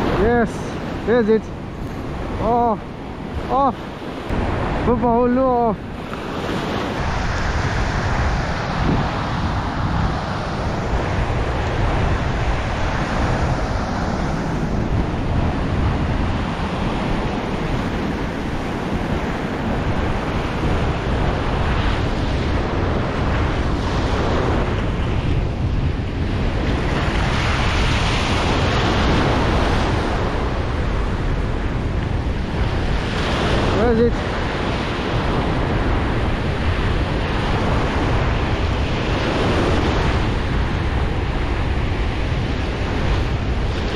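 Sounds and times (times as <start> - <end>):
ocean surf breaking on beach: 0.0 - 43.9
wind buffeting microphone: 0.0 - 43.9.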